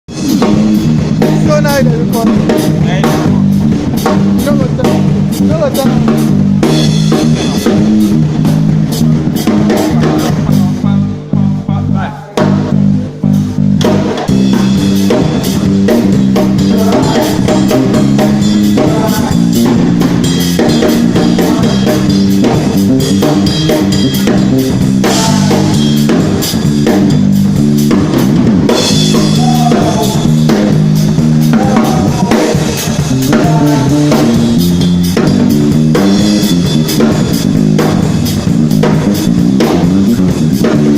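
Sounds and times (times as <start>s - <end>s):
bass notes: 0.0s - 40.9s
drum kit beat: 0.1s - 40.9s.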